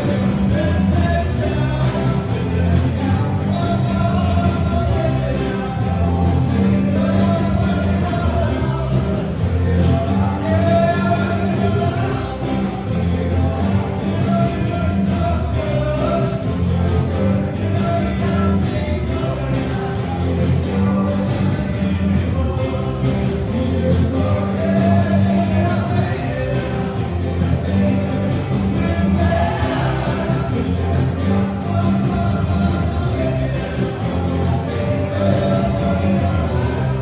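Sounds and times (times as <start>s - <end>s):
person singing: 0.0s - 37.0s
rock band playing live: 0.0s - 37.0s.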